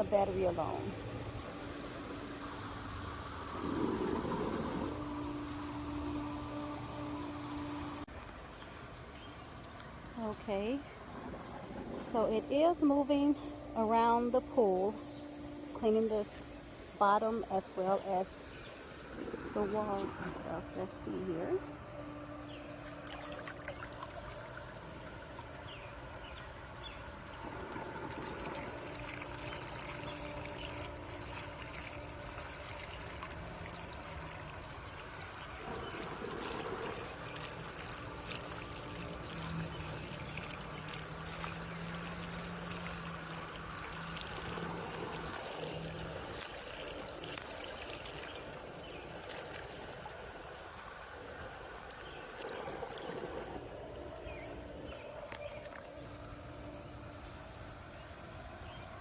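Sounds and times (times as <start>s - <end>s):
low mechanical hum: 0.0s - 59.0s
water trickling: 0.0s - 59.0s.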